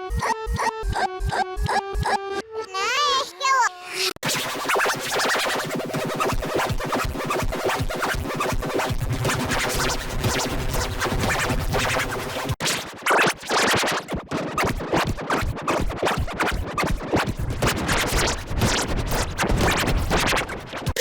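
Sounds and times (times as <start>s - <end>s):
stuttering electronic remix music: 0.0s - 2.5s, 3.9s - 21.0s
record scratch effects: 3.1s - 21.0s.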